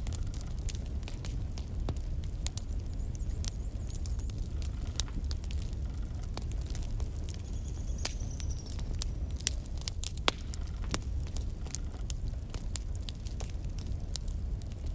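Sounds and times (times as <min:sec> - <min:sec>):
fire crackling and popping: 0:00.0 - 0:14.9
low rumble of flames: 0:00.0 - 0:14.9.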